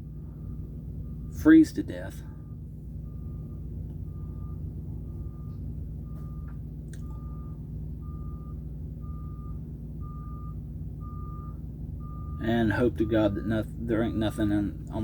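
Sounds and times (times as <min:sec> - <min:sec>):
low engine rumble: 0:00.0 - 0:15.0
backup alarm beeping: 0:02.3 - 0:14.6.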